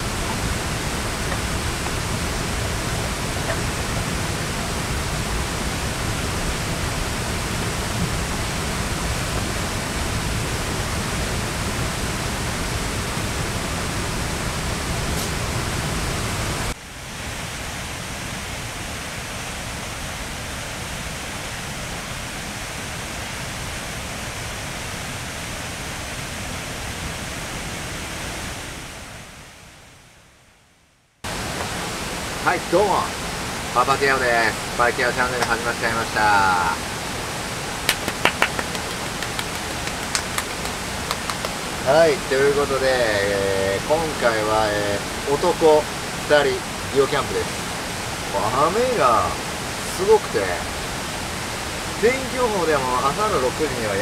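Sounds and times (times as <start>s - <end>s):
water rushing: 0.0s - 29.8s, 31.2s - 54.0s.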